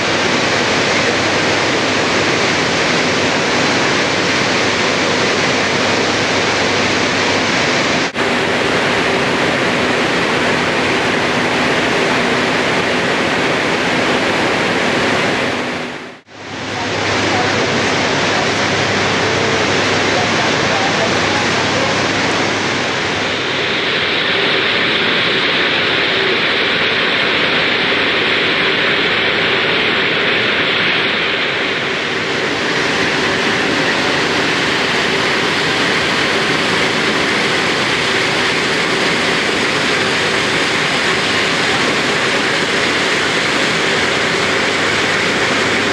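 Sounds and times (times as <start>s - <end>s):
processing machines running: 0.0s - 45.9s.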